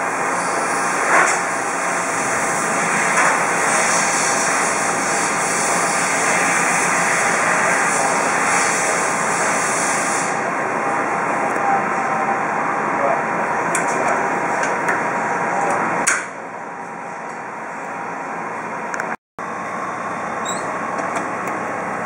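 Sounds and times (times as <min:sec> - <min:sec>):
industrial machinery running: 0:00.0 - 0:22.0.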